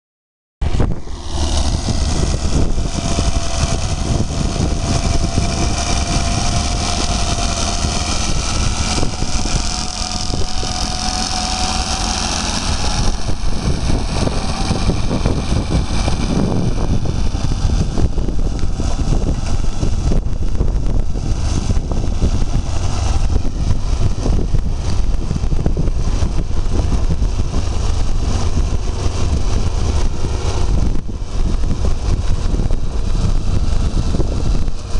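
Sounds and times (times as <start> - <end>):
small tractor engine under load: 0.6 - 34.9.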